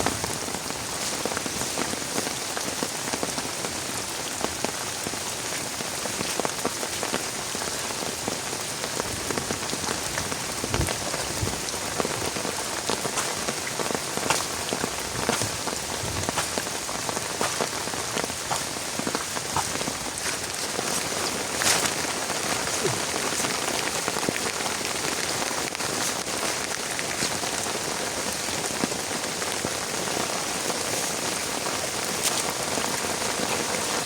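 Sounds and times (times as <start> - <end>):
heavy rain: 0.0 - 34.0
raindrops pattering: 0.0 - 34.0.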